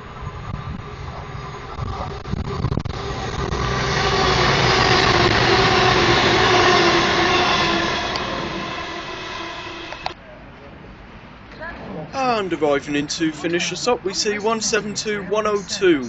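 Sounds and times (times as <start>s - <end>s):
train whine: 0.0s - 10.3s, 12.2s - 16.0s
diesel train passing by: 0.0s - 11.4s, 12.2s - 16.0s.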